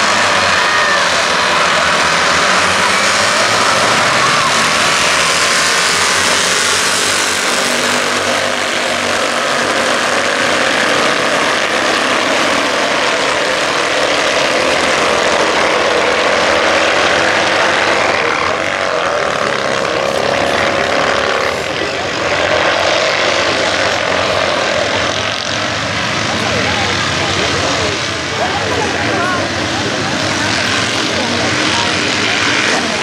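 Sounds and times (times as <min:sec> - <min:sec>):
race car engines buzzing: 0:00.0 - 0:33.0.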